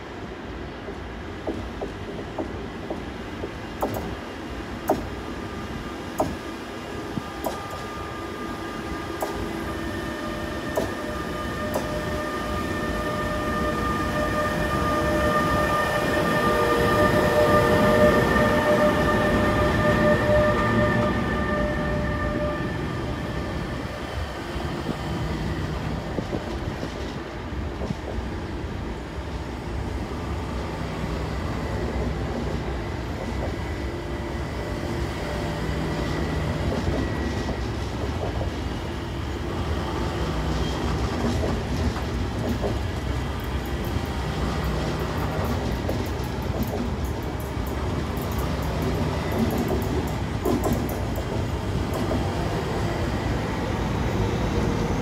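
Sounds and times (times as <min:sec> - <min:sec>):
electric locomotive whine: 0:00.0 - 0:55.0
train coaches rolling past: 0:00.0 - 0:55.0.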